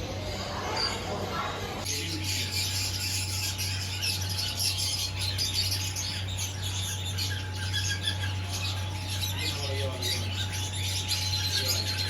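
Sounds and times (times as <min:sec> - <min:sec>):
caged birds chirping and squawking: 0:00.0 - 0:12.0
steady low hum: 0:00.0 - 0:12.0.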